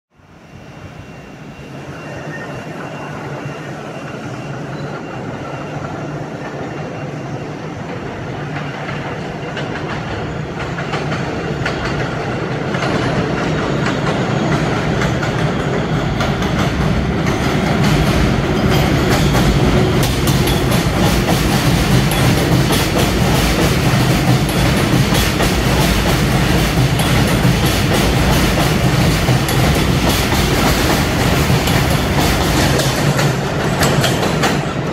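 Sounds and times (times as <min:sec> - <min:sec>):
subway train rumble: 0:00.1 - 0:34.9.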